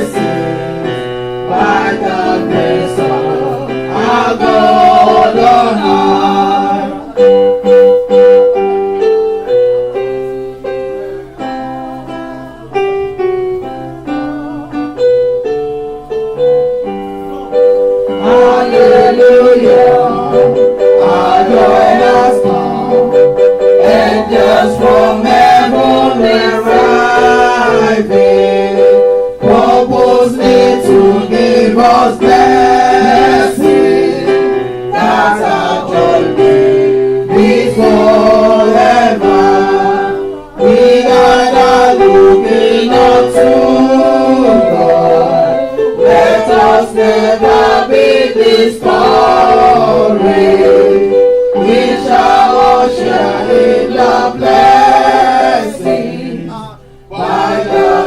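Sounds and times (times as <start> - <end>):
choir singing a hymn: 0.0 - 8.7, 16.4 - 58.0.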